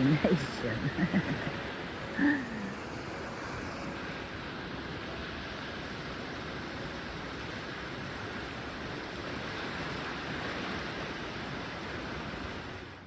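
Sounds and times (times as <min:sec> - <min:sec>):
sea waves rushing: 0:00.0 - 0:13.0.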